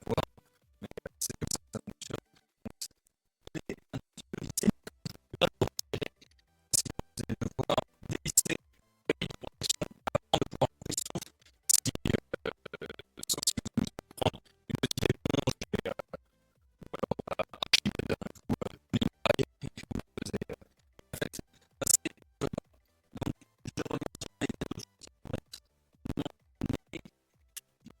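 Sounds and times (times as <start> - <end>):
scratching and clicking handling: 0.0 - 28.0.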